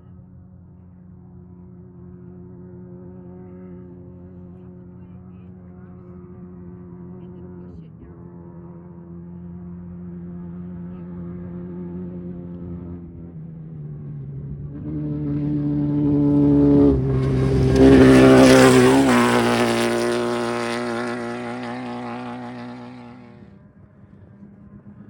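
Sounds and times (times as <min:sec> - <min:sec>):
off-road race vehicle passing: 0:00.0 - 0:25.0.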